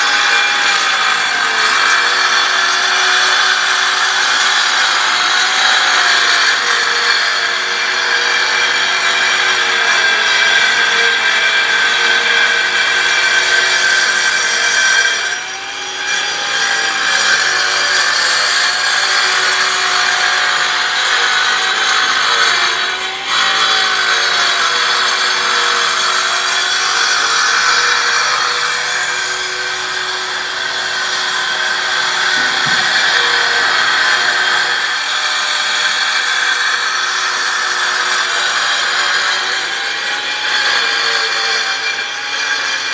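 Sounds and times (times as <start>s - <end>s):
saw grinding concrete: 0.0s - 42.9s.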